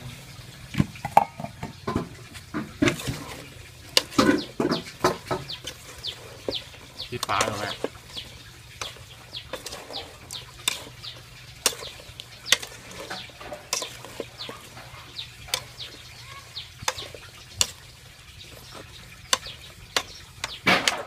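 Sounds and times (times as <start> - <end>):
birds chirping: 0.0 - 21.0
spatula knocking and scraping pot: 1.0 - 21.0.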